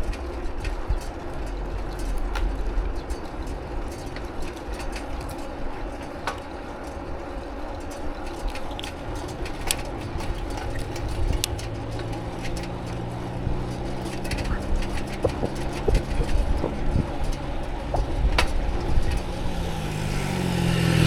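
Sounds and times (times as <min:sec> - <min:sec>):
bicycle riding rumble: 0:00.0 - 0:21.0
low traffic engine hum: 0:00.0 - 0:21.0
sharp clicks and rattles: 0:00.0 - 0:21.0.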